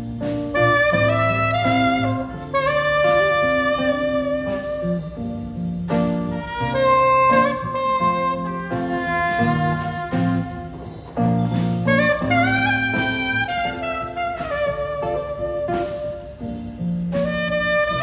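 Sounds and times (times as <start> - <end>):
saxophone melody: 0.0 - 18.0.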